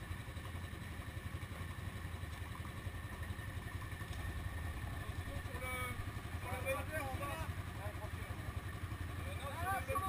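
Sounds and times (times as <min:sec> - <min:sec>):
quad engine idling: 0:00.0 - 0:10.0.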